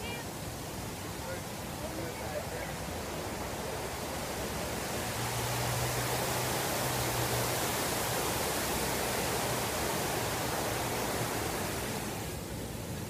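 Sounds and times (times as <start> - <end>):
water cascading into basin: 0.0 - 13.0.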